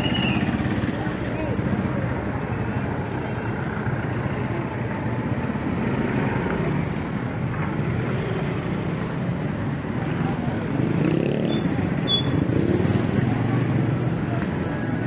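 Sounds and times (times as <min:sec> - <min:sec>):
motorcycle and car engines: 0:00.0 - 0:15.0
road noise: 0:00.0 - 0:15.0.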